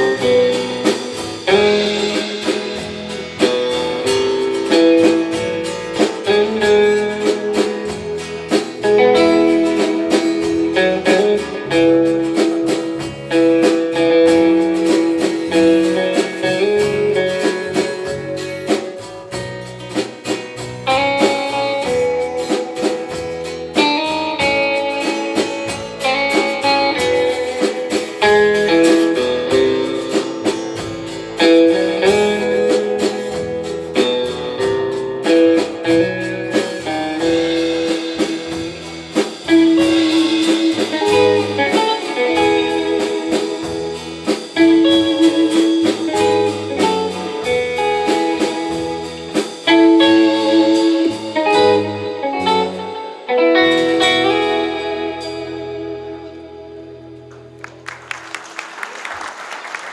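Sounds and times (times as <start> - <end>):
drum kit steady beat: 0.0 - 58.5
bass guitar: 0.0 - 58.6
electric guitar melody: 0.0 - 58.6.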